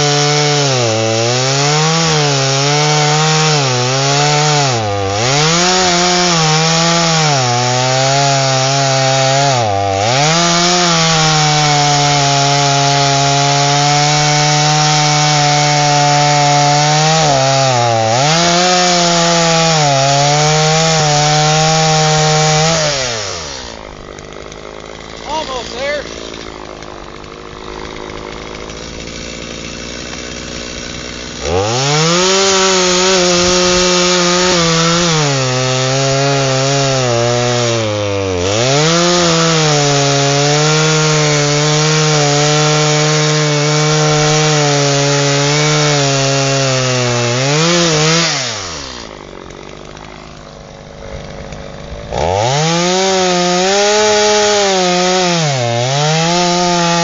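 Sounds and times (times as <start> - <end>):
chainsaw revving and cutting log: 0.0 - 57.0.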